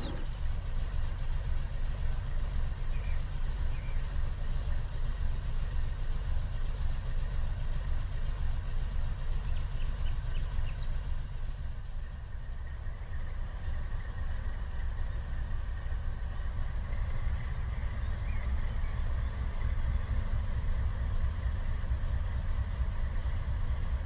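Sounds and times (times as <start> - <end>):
diesel locomotives idling: 0.0 - 24.0.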